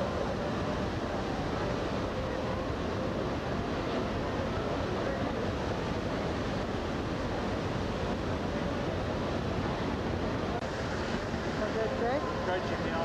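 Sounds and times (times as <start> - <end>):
rush of wind and sea water: 0.0 - 13.0.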